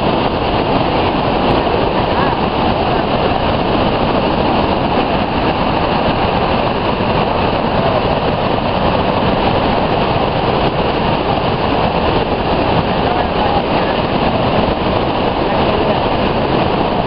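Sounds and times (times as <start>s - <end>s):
water roaring over spillway: 0.0s - 17.0s.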